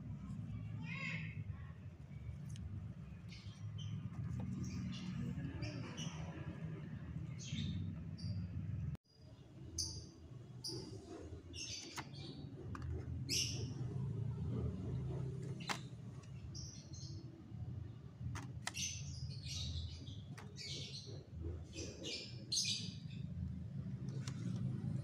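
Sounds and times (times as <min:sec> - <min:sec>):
small birds chirping: 0:00.6 - 0:25.0.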